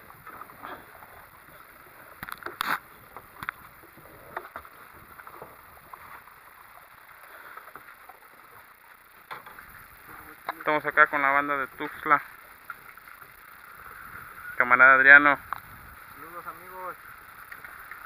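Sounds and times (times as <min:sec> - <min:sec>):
water washing around boat: 0:00.0 - 0:18.0.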